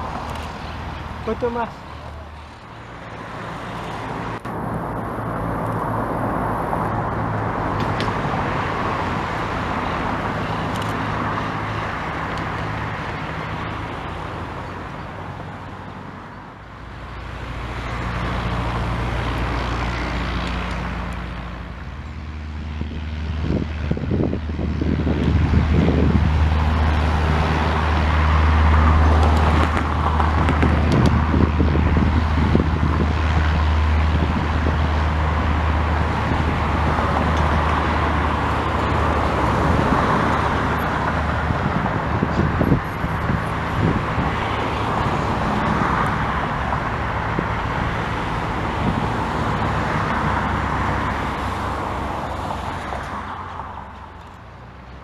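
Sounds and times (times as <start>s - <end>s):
propeller aircraft engine drone: 0.0s - 55.0s.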